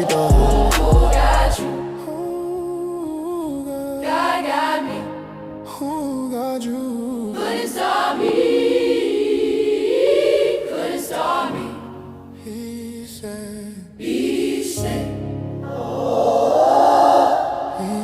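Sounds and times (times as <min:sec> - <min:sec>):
gospel choir wordless vocals: 0:00.0 - 0:18.0.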